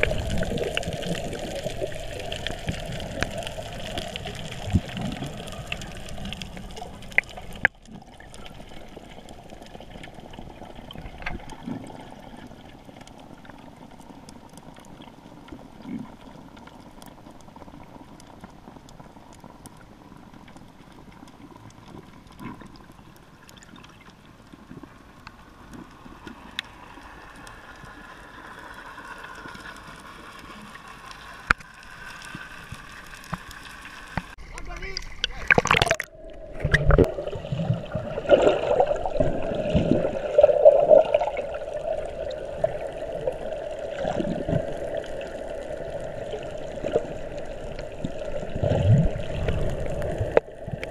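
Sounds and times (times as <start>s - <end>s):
muffled underwater water noise: 0.0s - 50.9s.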